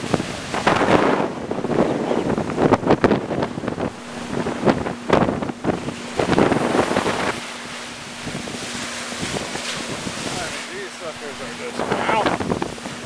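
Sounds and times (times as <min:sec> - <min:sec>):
waves crashing on shore: 0:00.0 - 0:13.0
wind gusts buffeting microphone: 0:00.0 - 0:13.0.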